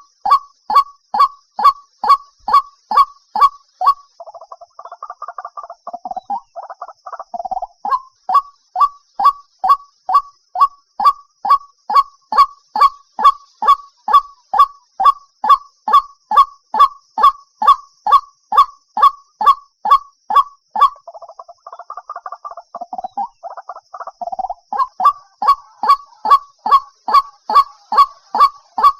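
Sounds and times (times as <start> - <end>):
waterhen calling: 0.0 - 28.9.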